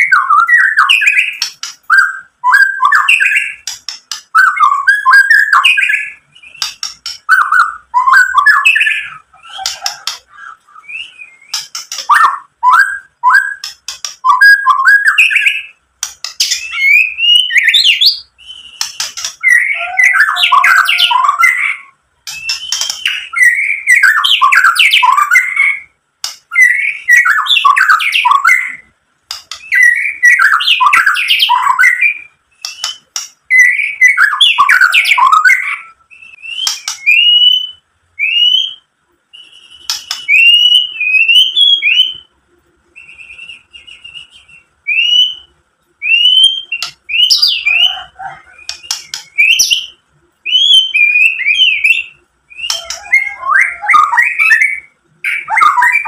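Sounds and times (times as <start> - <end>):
bird singing: 0.0 - 56.0.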